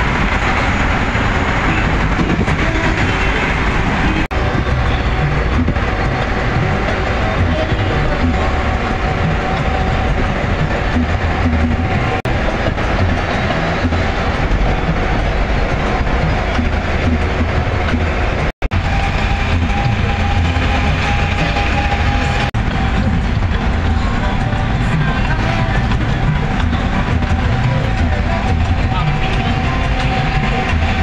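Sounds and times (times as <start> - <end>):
vehicle engine and tyre noise: 0.0 - 31.0.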